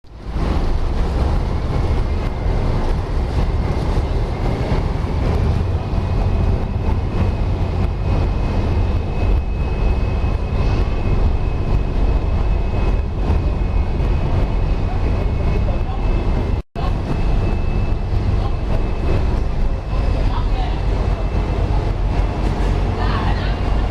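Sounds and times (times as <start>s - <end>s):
boat engine deep rumble: 0.0s - 23.9s
high steady whine: 0.1s - 23.9s.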